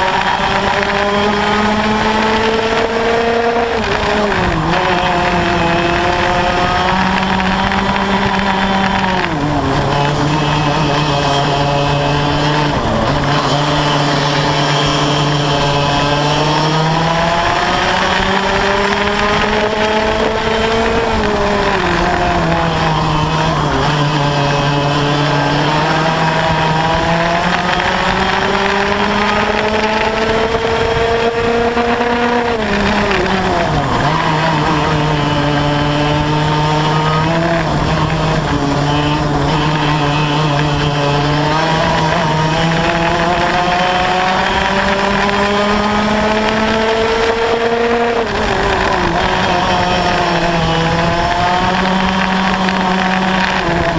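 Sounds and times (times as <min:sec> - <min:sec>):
kart engine at racing speed: 0:00.0 - 0:53.9.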